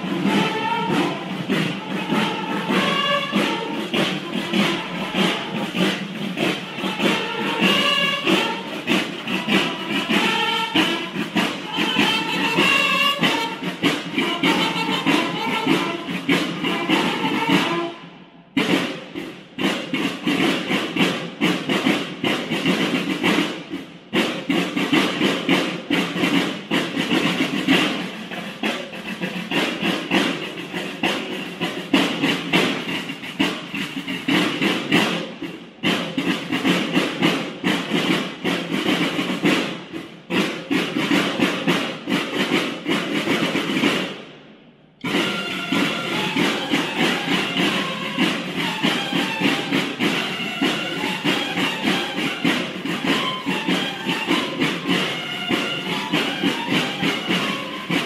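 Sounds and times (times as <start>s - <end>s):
snare drums playing march cadence: 0.0s - 58.0s.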